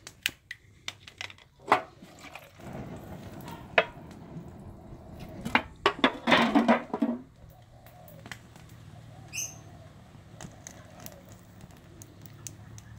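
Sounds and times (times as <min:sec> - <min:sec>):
fire crackling and popping: 0:00.0 - 0:09.1, 0:09.9 - 0:12.9.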